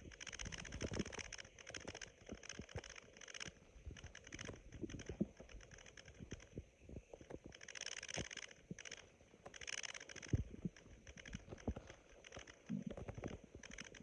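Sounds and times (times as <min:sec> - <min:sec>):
stomach pops and clicks: 0:00.0 - 0:14.0.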